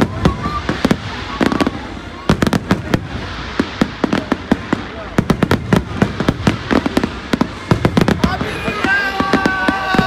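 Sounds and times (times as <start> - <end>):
fireworks bursting with bangs: 0.0 - 10.0.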